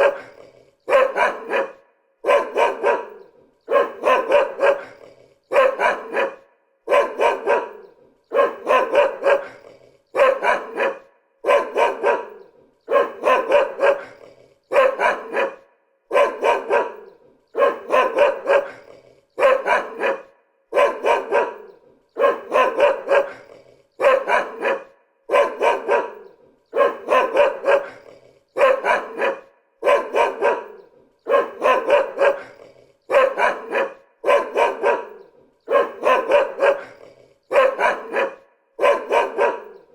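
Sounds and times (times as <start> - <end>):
dog barking: 0.0 - 39.9.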